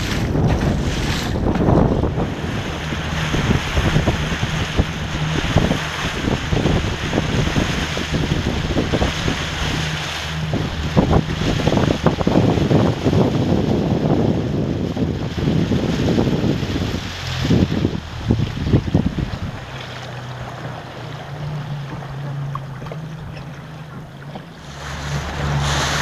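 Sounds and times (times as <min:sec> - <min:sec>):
water splashing around boat: 0:00.0 - 0:26.0
wind buffeting microphone: 0:00.0 - 0:26.0.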